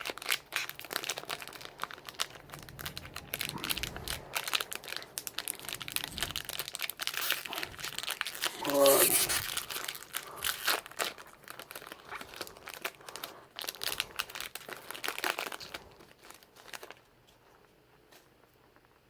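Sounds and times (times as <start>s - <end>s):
foil wrapper crinkling and tearing: 0.0s - 18.9s.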